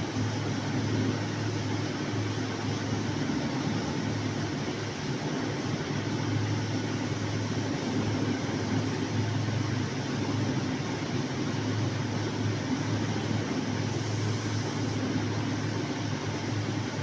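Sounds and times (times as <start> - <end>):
machine humming with hiss: 0.0 - 17.0.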